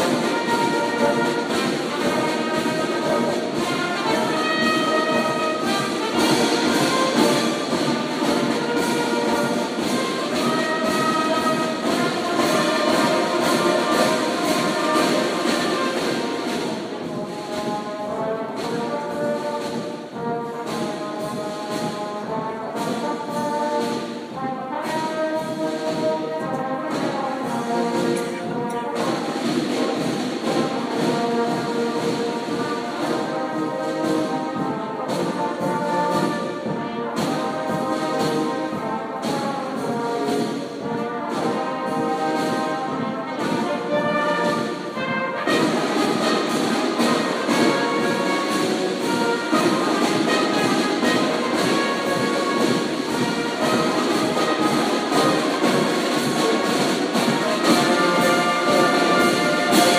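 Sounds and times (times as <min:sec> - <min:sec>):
marching band brass: 0:00.0 - 0:59.9
steady drum beat: 0:00.0 - 0:59.9.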